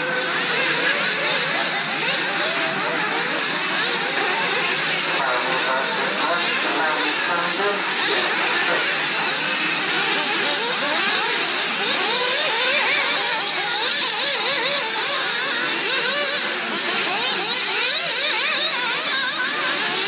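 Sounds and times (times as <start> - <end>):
small engines revving: 0.0 - 20.0.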